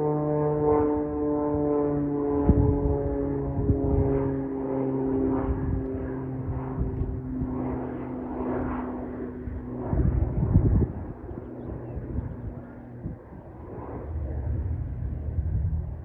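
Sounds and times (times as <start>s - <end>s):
turboprop plane droning: 0.0s - 16.0s
wind buffeting microphone: 0.6s - 16.0s.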